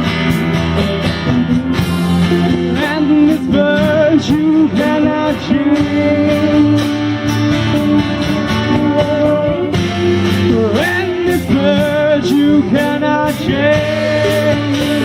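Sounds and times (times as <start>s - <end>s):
rock band music: 0.0s - 15.0s
person singing: 2.2s - 15.0s.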